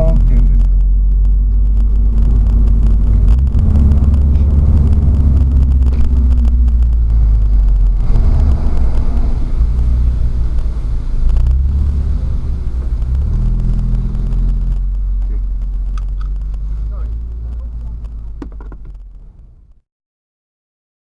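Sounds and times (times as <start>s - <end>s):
exhaust burbles and pops: 0.0s - 19.8s
race car engine through gears: 0.0s - 19.8s.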